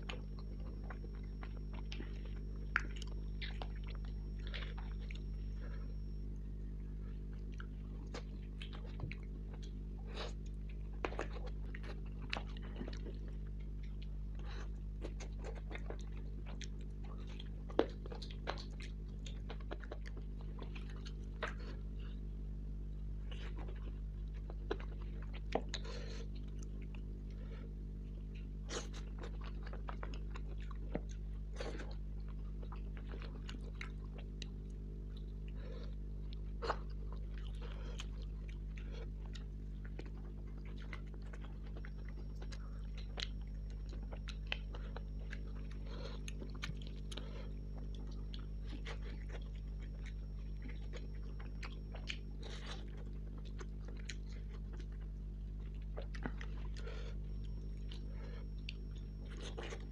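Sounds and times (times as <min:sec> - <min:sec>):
chewing and mouth smacks: 0:00.0 - 0:59.9
low electrical hum: 0:00.0 - 0:59.9.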